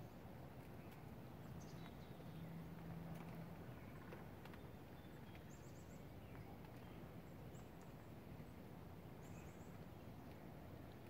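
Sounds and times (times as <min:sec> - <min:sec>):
distant songbird chirps: 0:00.0 - 0:11.0.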